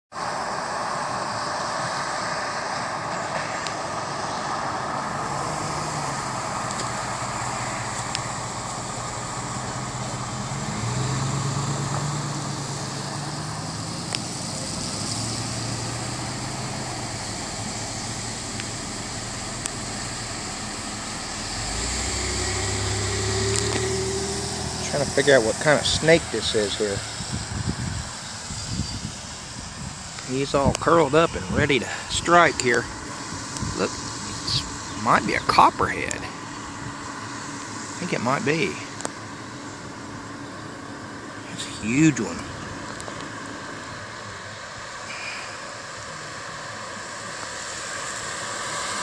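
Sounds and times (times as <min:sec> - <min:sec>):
vehicle engine hum: 0:00.1 - 0:49.0
constant hiss: 0:00.2 - 0:49.0.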